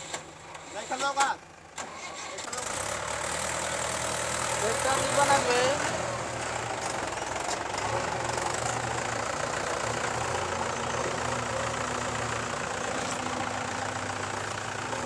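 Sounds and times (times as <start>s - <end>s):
diesel engine idling: 2.6s - 15.0s.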